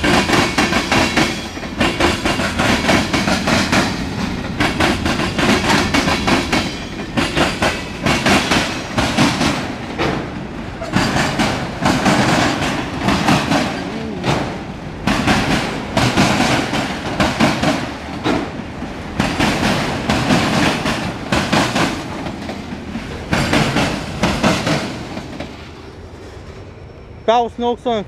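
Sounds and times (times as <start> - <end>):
train wheels clacking: 0.0 - 26.6
train rolling rumble: 0.0 - 28.0.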